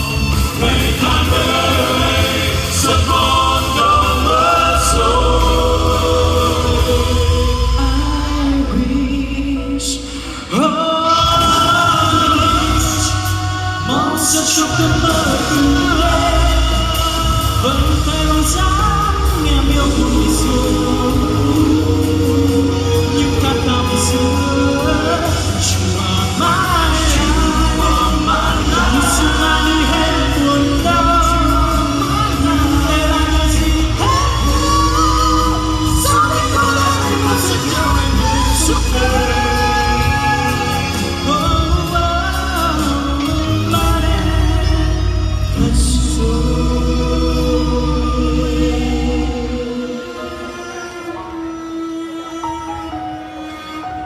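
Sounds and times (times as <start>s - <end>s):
steady bass: 0.0s - 10.2s, 11.1s - 49.8s
person singing: 0.0s - 54.0s
song with long sung notes: 0.0s - 54.0s.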